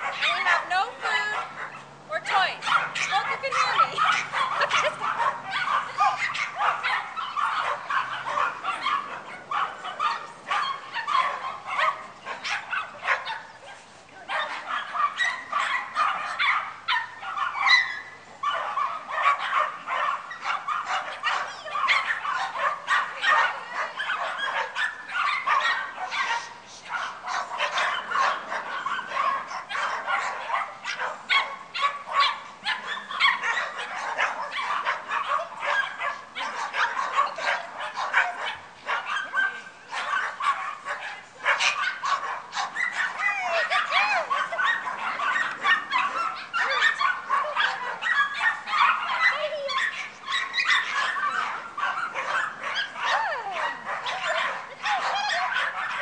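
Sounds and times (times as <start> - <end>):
dogs barking and yipping: 0.0 - 56.0.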